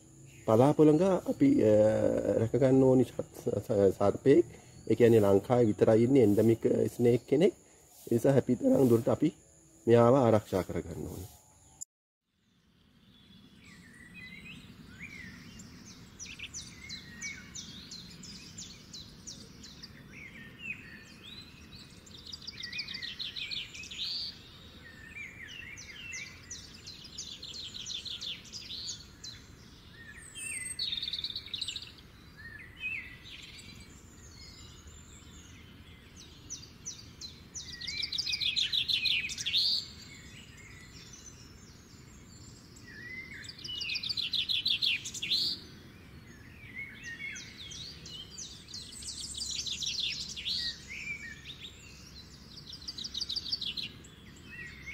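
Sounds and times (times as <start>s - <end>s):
birds trilling and chirping: 0.0s - 11.8s, 12.8s - 54.9s.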